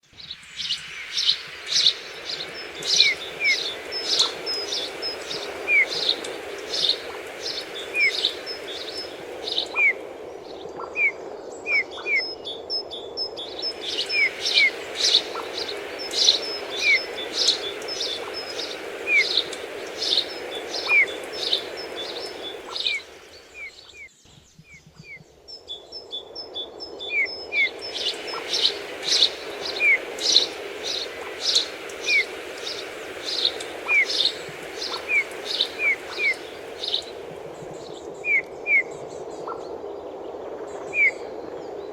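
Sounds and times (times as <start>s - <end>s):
songbirds chirping: 0.0s - 41.9s
soft curved bird whistles: 0.6s - 39.6s
steady background noise: 0.9s - 23.7s, 25.2s - 41.9s.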